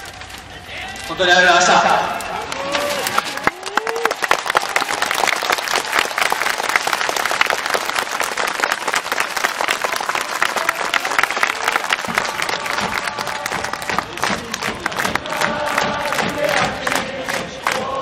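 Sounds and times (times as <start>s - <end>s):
stadium crowd applauding: 1.6s - 18.0s.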